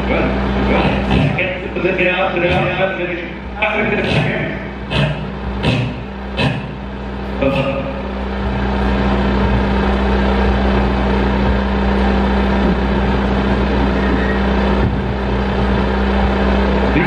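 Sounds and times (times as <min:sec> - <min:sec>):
dense noise wash: 0:00.0 - 0:17.0
low electronic drone: 0:00.0 - 0:17.0.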